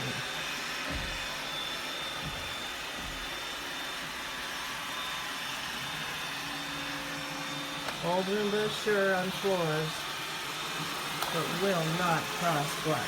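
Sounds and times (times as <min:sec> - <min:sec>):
robot vacuum whirring: 0:00.0 - 0:13.0.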